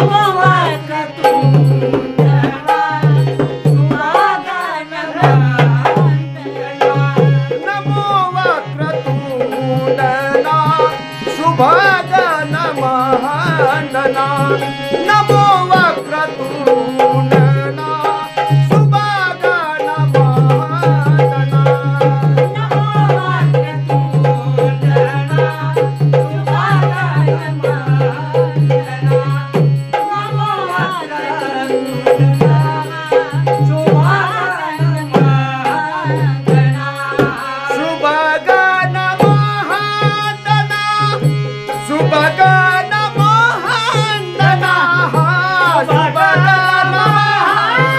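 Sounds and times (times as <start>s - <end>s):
chorus singing: 0.0s - 47.9s
hand drum percussion: 0.0s - 47.9s
harmonium: 0.0s - 47.9s
man singing lead: 0.0s - 47.9s.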